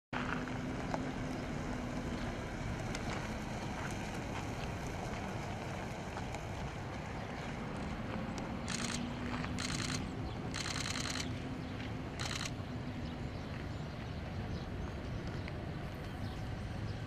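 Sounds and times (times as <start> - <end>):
faint pickup truck engine: 0.2 - 17.0.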